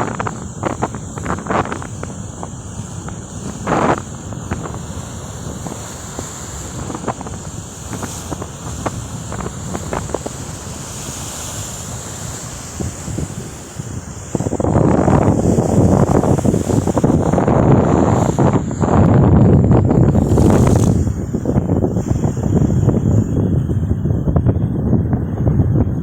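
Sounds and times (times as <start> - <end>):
sea waves and surf: 0.0 - 26.0
wind rumbling on microphone: 0.0 - 26.0.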